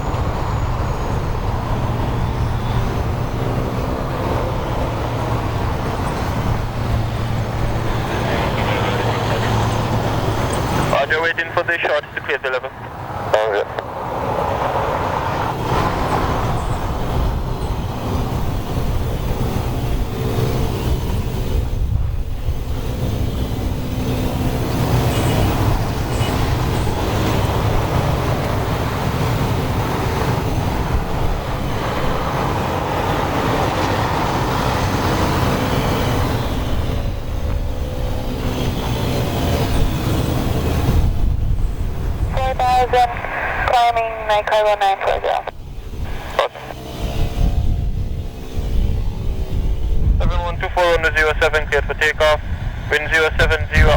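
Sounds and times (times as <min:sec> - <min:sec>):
propeller engine drone: 0:00.0 - 0:53.9.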